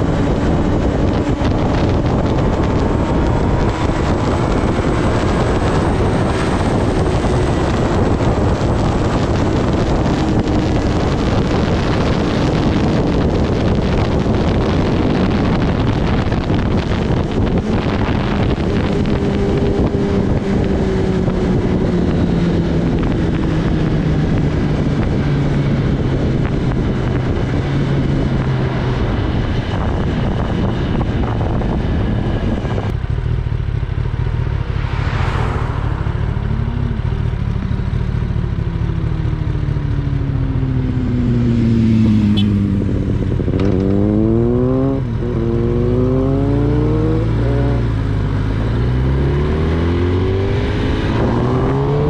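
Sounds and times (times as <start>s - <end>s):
motorcycle engine: 0.0s - 52.0s
motorcycle revving through gear changes: 0.0s - 52.0s
wind noise on microphone: 0.0s - 52.0s.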